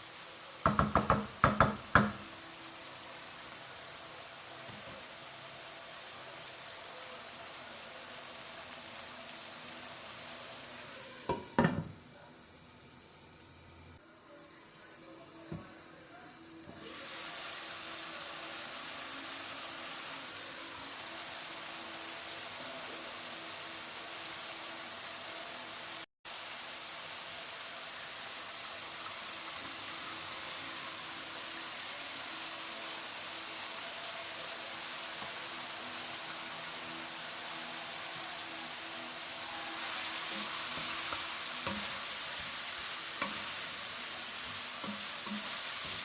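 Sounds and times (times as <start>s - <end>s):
food sizzling in a pan: 0.0s - 46.0s.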